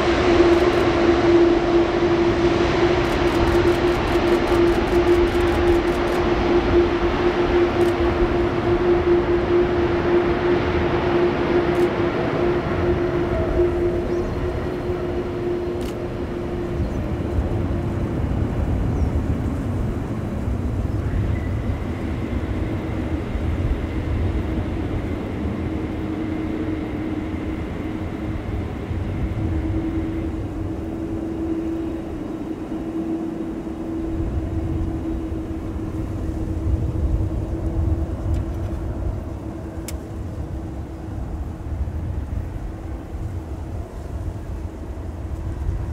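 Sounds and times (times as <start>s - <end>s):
high jet engine whine: 0.0s - 45.9s
jet engines rumbling: 0.0s - 45.9s.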